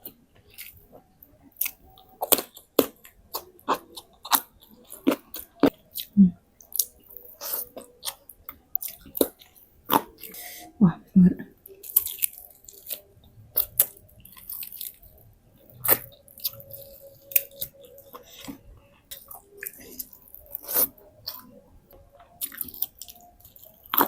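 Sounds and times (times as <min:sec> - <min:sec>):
person chewing with smacks and crunches: 0:00.0 - 0:10.5, 0:11.4 - 0:24.0.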